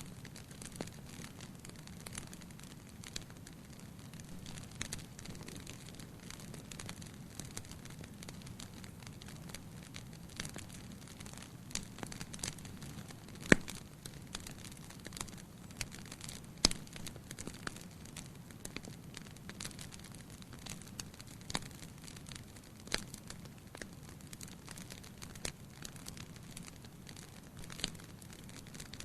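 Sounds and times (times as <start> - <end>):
firewood crackling and snapping: 0.0 - 29.0
low rumble of flame: 0.0 - 29.0.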